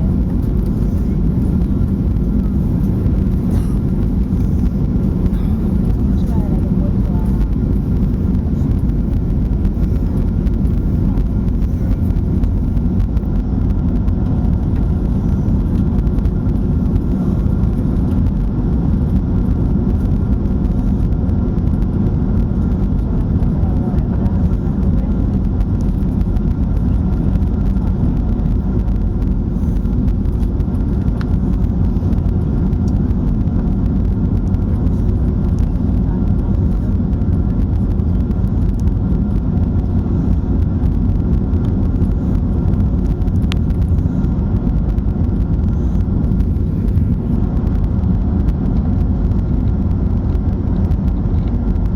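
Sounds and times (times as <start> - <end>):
airliner engines and airflow in cabin: 0.0 - 51.9.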